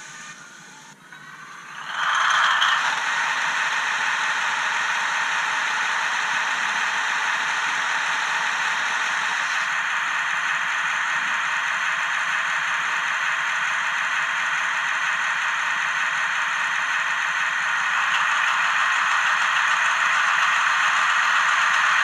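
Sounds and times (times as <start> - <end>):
diesel engine sound from small speaker: 0.0 - 22.0.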